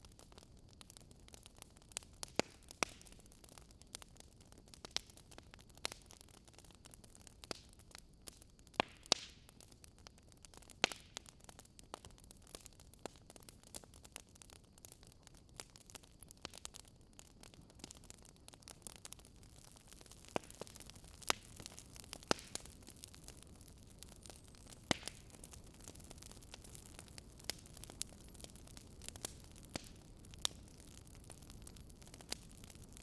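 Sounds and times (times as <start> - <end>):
fire snapping and popping: 0.0 - 33.0
wood fire crackling: 0.0 - 33.0.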